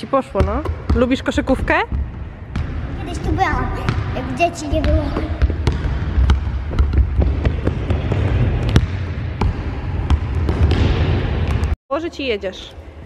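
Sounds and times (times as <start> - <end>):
basketballs bouncing on wooden floor: 0.0 - 11.8.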